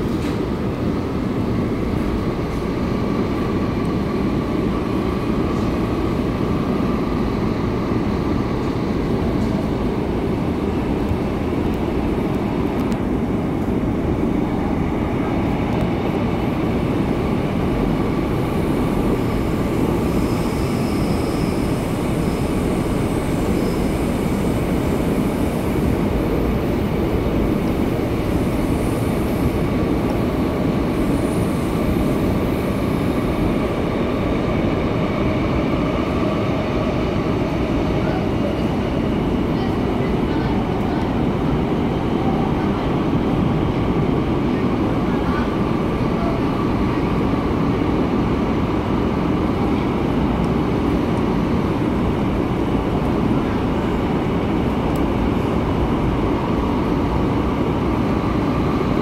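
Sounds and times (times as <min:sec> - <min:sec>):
train wheels rumbling in tunnel: 0:00.0 - 0:59.0.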